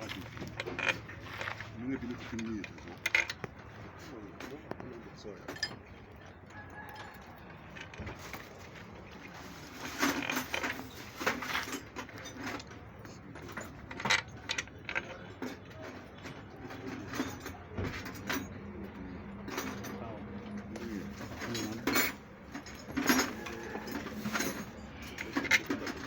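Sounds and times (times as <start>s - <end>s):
metal tools clinking: 0.0s - 4.7s, 5.3s - 26.0s.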